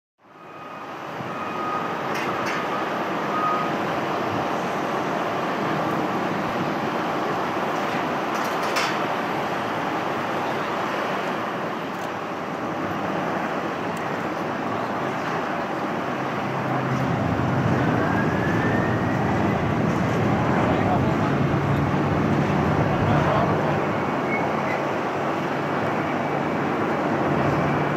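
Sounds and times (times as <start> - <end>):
jet engine whine rising: 0.3 - 27.9
jet engines running: 0.5 - 27.9.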